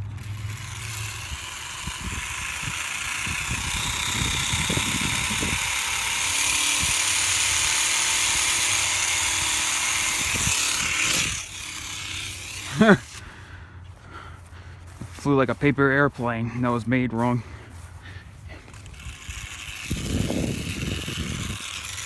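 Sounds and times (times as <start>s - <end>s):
small propeller motor whirring: 0.0s - 13.9s, 16.7s - 22.0s.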